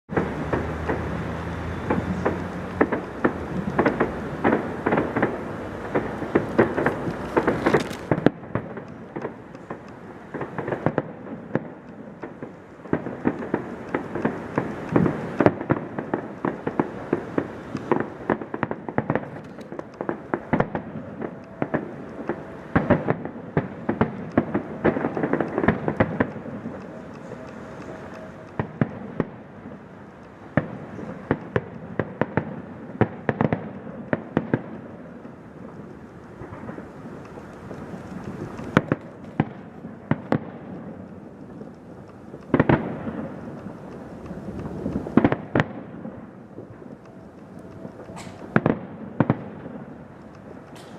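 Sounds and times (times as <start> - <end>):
fireworks bangs and crackles: 0.1 - 50.9.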